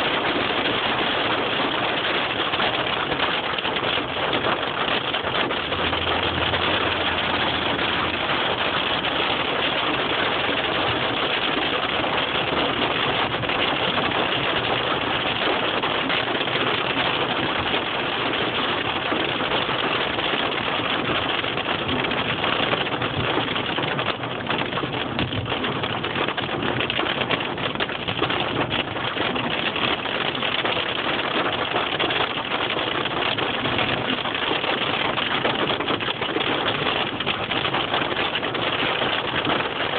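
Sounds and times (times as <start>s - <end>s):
hailstones and rain pelting: 0.0s - 39.9s.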